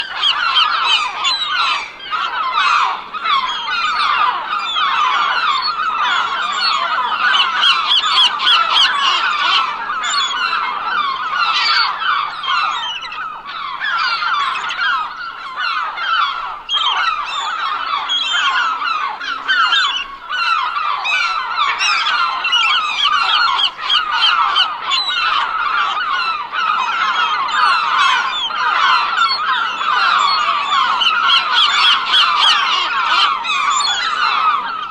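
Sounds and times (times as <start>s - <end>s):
seagulls squawking: 0.0s - 34.9s.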